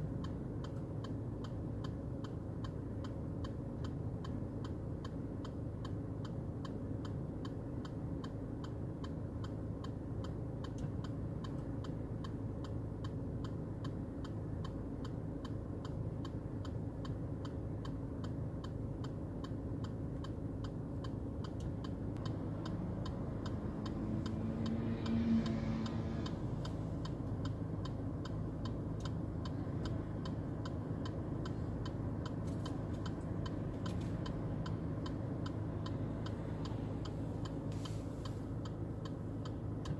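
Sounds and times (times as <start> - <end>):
low background rumble: 0.0 - 39.9
low hum: 0.0 - 39.9
rapid mechanical ticking: 0.0 - 39.9.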